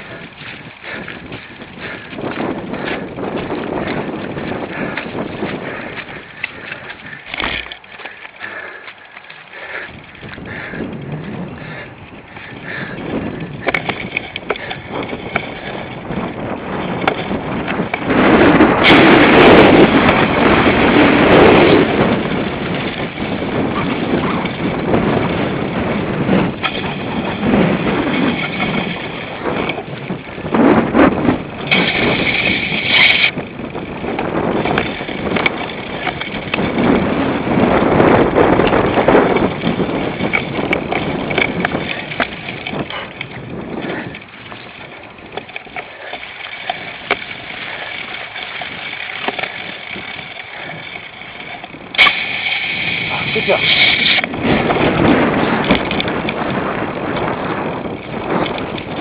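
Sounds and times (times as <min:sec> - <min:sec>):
bike tyre rumble on rough ground: 0:00.0 - 0:59.0
drivetrain and frame rattle: 0:00.0 - 0:59.0
wind buffeting microphone: 0:00.0 - 0:59.0.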